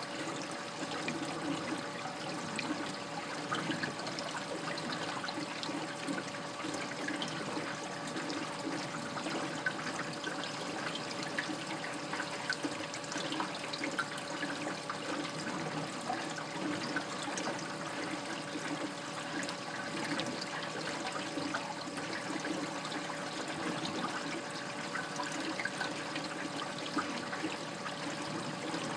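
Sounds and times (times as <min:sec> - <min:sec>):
faint steady hum: 0:00.0 - 0:28.9
water trickling and splashing: 0:00.0 - 0:28.9.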